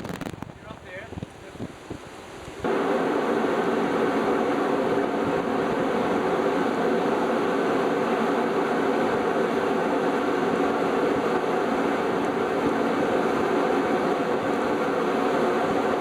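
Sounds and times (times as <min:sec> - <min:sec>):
ship machinery noise: 0:02.6 - 0:16.0.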